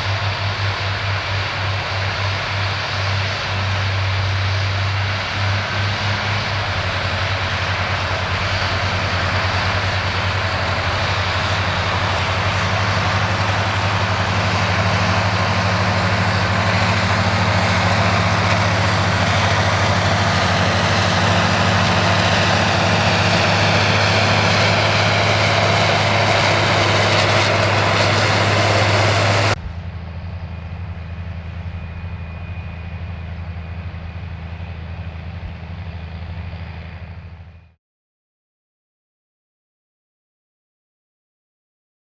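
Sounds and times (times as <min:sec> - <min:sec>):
distant engine drone: 0:00.0 - 0:37.8
tractor diesel engines: 0:00.0 - 0:37.8.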